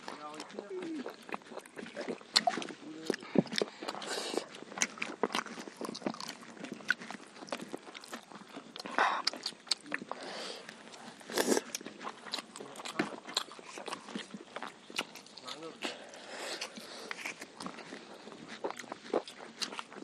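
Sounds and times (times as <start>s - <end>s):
chewing and crunching food: 0.0s - 20.0s
mouth smacks and clicks: 0.0s - 20.0s.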